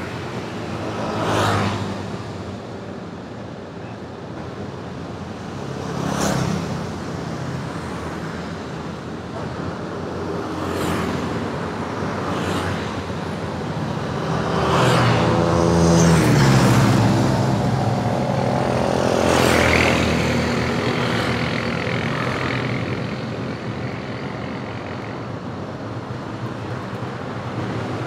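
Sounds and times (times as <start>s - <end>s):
motorbikes and cars passing: 0.0s - 28.0s
steady traffic hum: 0.0s - 28.0s.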